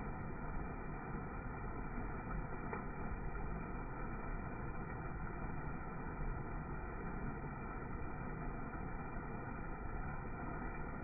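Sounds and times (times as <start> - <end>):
water rushing over waterfall: 0.0 - 11.0.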